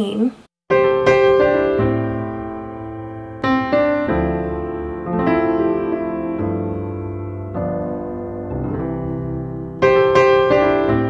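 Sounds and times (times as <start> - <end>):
piano music: 0.7 - 11.0.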